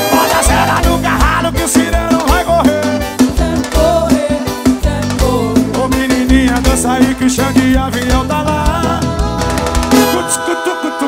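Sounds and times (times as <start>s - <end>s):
song with drum and bass beat: 0.0s - 11.0s.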